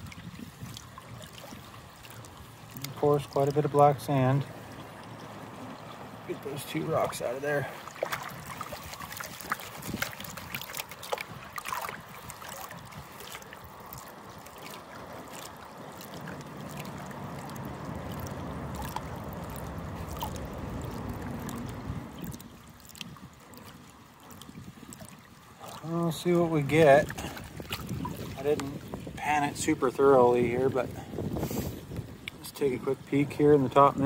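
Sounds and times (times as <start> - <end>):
water sloshing in a pan: 0.0 - 32.7.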